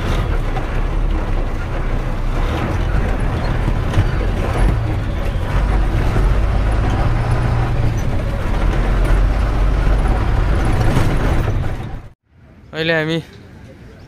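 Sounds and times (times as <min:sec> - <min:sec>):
truck diesel engine running: 0:00.0 - 0:12.2
road noise: 0:00.0 - 0:14.0.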